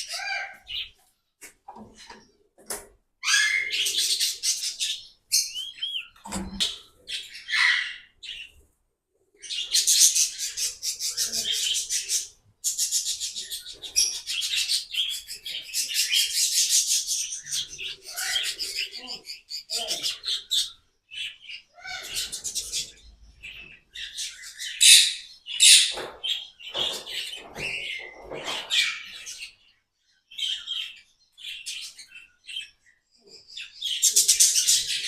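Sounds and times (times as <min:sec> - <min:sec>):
small birds chirping and chattering: 0:00.0 - 0:35.0.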